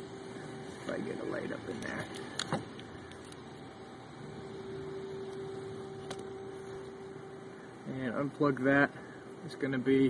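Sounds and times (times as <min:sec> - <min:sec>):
steady hum with hiss: 0:00.0 - 0:10.0.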